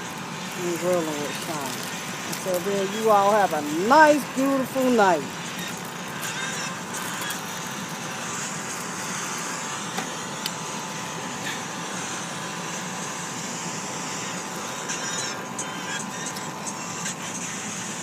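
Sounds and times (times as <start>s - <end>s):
meat sizzling on charcoal grill: 0.0s - 18.0s.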